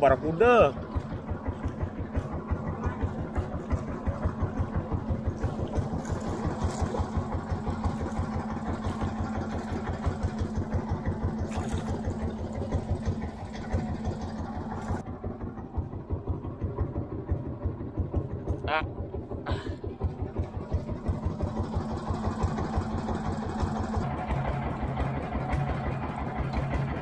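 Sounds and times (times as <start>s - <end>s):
small boat engine running: 0.0s - 27.0s.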